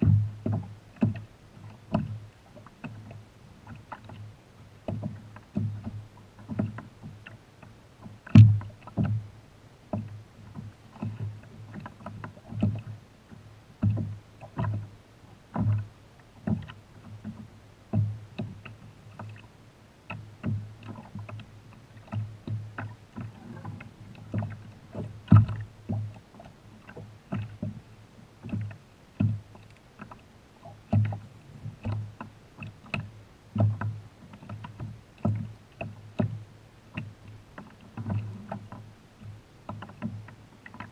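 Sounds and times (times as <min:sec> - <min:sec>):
waves knocking against kayak hull: 0:00.0 - 0:40.9.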